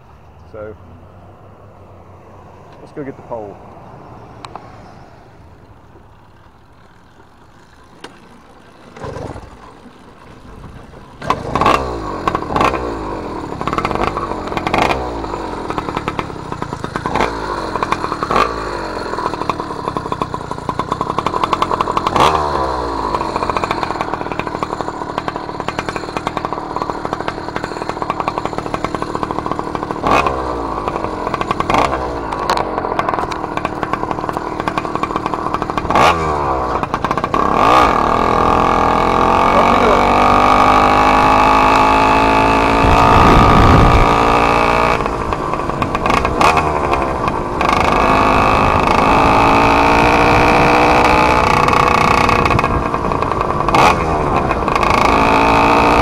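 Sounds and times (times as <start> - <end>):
two-stroke engine revving: 6.2 - 56.0.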